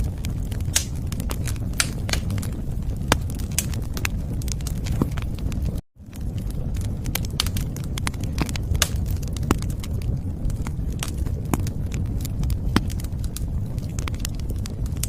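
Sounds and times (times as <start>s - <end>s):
low rumble of flame: 0.0s - 15.0s
wood fire crackling: 0.0s - 15.0s.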